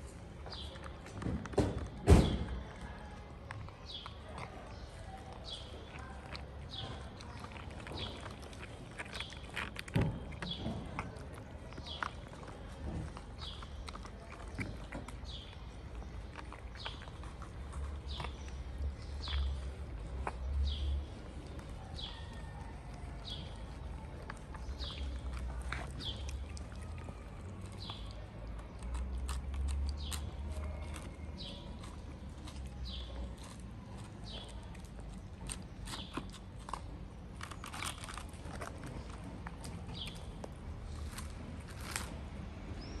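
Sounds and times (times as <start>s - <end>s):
cats chewing and crunching food: 0.0s - 43.0s.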